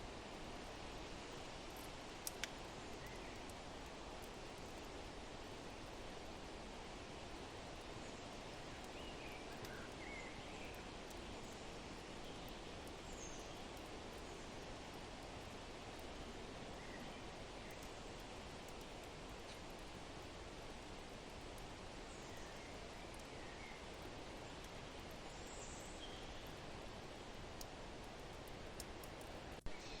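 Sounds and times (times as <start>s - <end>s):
crackling fire: 0.0s - 30.0s
faint wind: 0.0s - 30.0s.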